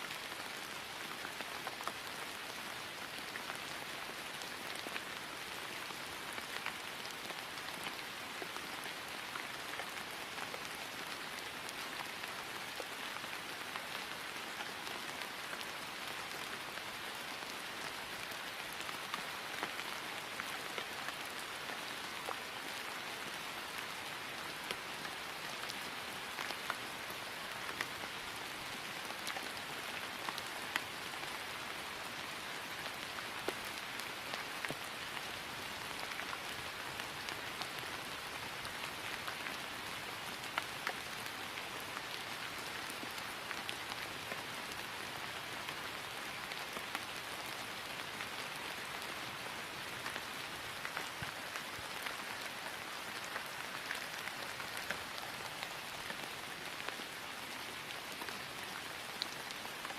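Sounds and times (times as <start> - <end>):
rain falling on grass: 0.0 - 59.9.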